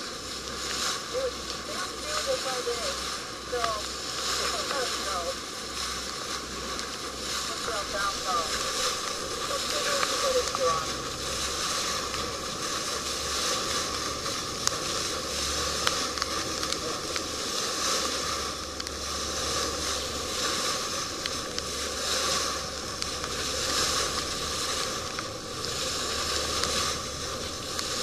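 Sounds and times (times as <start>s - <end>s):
low engine hum: 0.0s - 28.0s
water rushing past hull: 0.0s - 28.0s.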